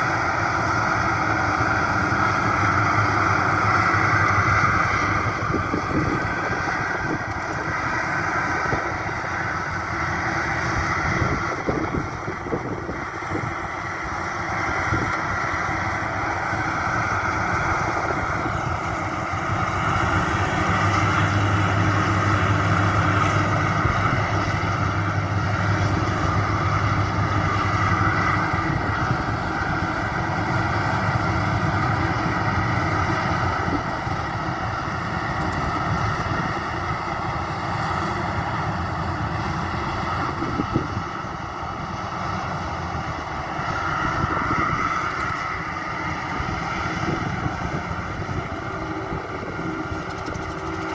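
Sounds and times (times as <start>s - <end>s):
combine harvester drone: 0.0s - 50.9s.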